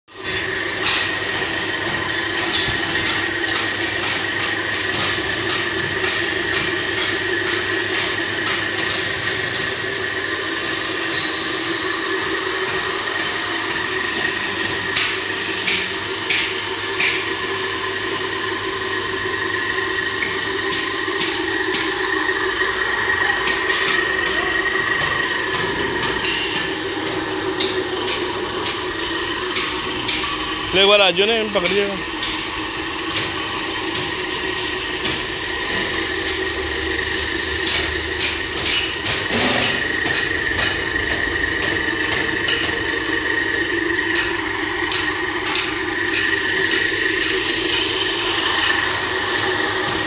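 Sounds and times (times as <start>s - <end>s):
high machine whine: 0.1s - 50.0s.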